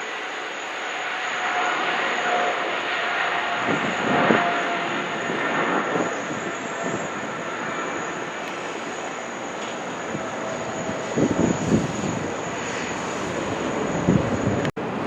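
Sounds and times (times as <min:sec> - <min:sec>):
jet airliner engines roaring: 0:00.0 - 0:15.0.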